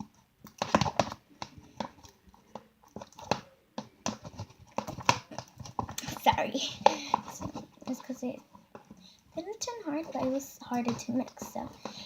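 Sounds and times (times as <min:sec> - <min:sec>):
sticky clicks of slime being stirred: 0:00.0 - 0:12.0.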